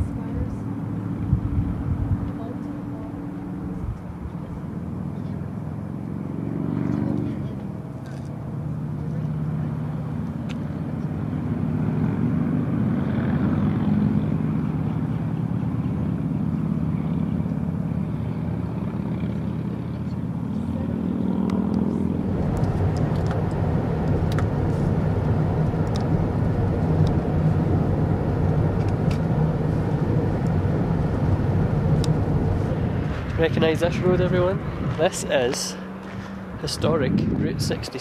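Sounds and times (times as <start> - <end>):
deep rough engine rumble: 0.0 - 38.0
engines humming: 0.0 - 38.0.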